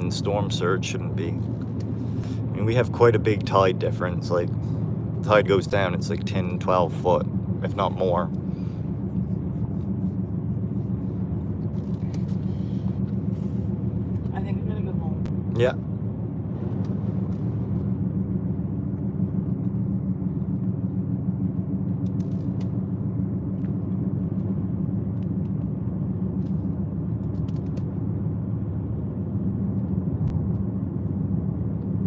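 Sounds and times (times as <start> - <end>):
car interior road rumble: 0.0 - 32.0.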